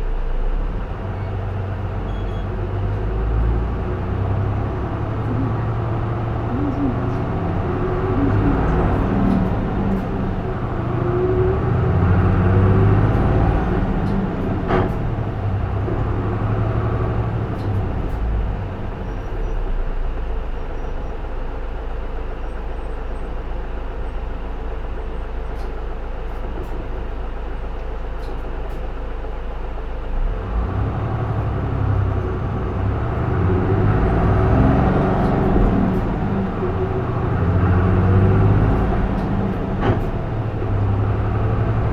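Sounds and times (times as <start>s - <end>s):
bus diesel engine under load: 0.0s - 41.9s.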